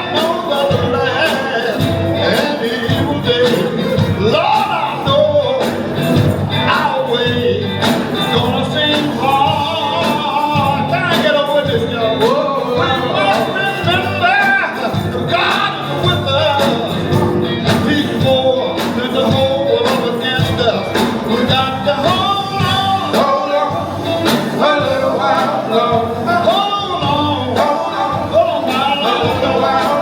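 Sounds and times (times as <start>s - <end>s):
band playing gospel music: 0.0s - 30.0s
drum hits: 0.0s - 30.0s
people singing: 0.0s - 30.0s.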